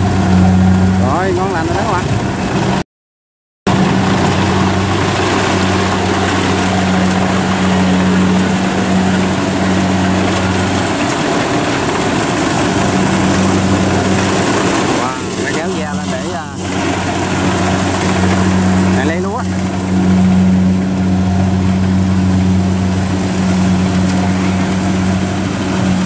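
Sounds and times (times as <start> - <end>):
diesel engines humming: 0.0 - 2.8, 3.7 - 26.0.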